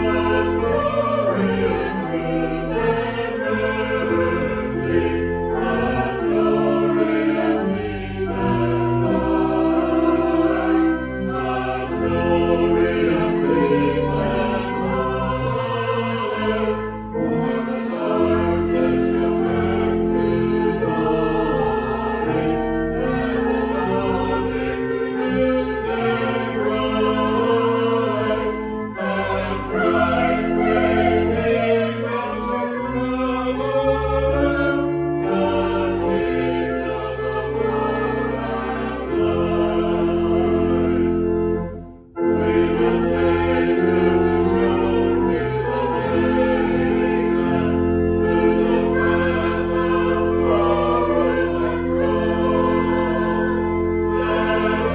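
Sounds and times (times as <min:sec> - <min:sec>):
choir singing a hymn: 0:00.0 - 0:54.9
instrumental accompaniment: 0:00.0 - 0:54.9.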